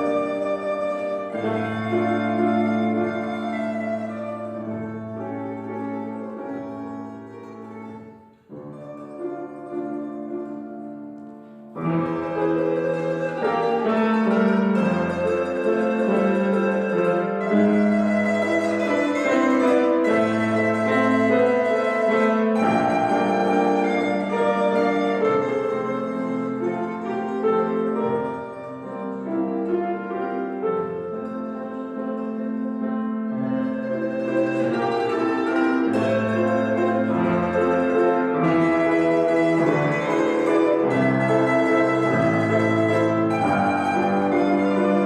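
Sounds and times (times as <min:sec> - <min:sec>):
piano accompaniment: 0:00.0 - 0:45.0
plucked string instrument melody: 0:00.0 - 0:45.0.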